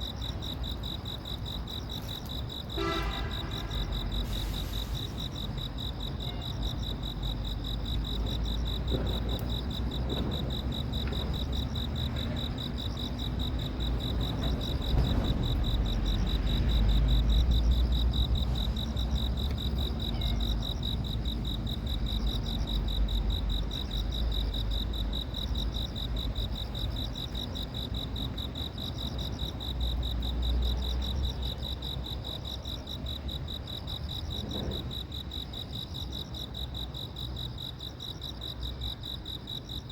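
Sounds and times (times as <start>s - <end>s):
cricket-like insect trilling: 0.0s - 39.9s
insect chirping: 0.0s - 39.9s.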